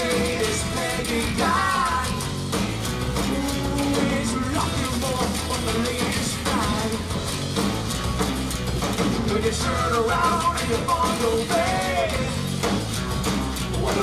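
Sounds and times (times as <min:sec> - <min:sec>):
acoustic guitars: 0:00.0 - 0:14.0
drum kit: 0:00.0 - 0:14.0.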